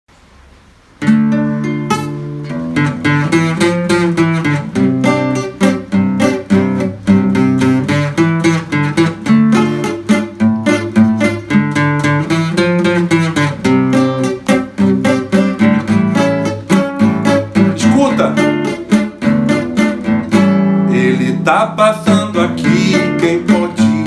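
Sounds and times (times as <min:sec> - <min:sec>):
acoustic guitar strumming chords: 0:01.0 - 0:24.0.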